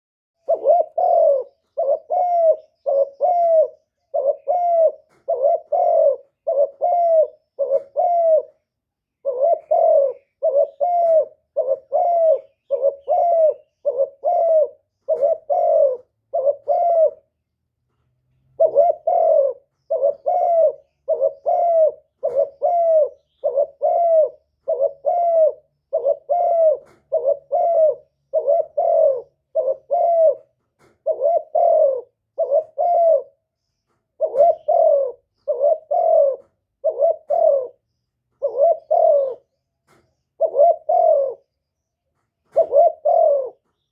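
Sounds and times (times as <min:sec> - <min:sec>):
dove cooing: 0:00.4 - 0:17.4, 0:18.4 - 0:43.9.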